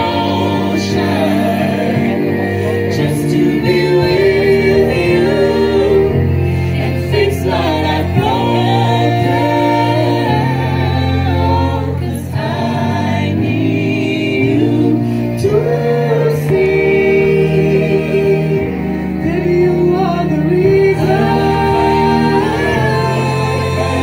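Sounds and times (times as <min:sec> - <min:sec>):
group singing in harmony: 0:00.0 - 0:24.0.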